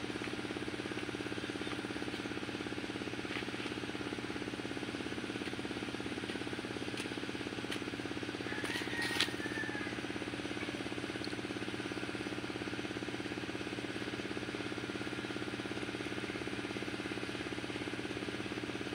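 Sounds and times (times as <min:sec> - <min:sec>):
small engine running: 0:00.0 - 0:18.9.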